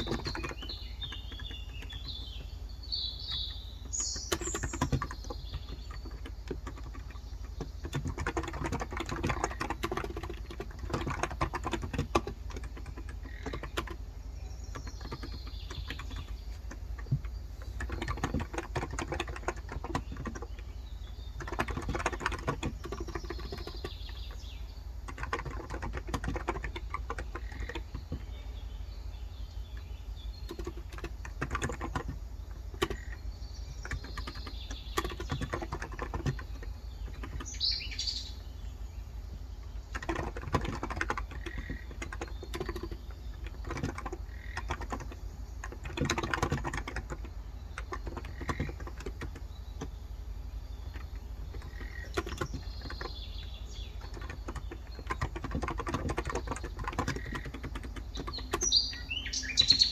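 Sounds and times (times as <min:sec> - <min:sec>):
fast keyboard typing: 0:00.0 - 0:28.6, 0:29.6 - 0:38.1, 0:39.6 - 0:59.9
birds chirping faintly: 0:00.0 - 0:59.9.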